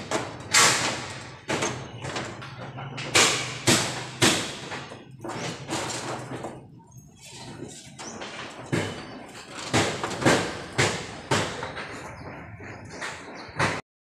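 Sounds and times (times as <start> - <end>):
bangs on corrugated iron roof: 0.0 - 13.8.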